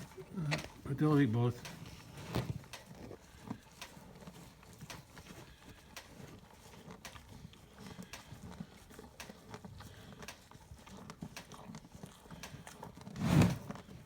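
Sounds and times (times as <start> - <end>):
cattle feeding: 0.0 - 14.0
hooves shuffling: 0.0 - 14.0.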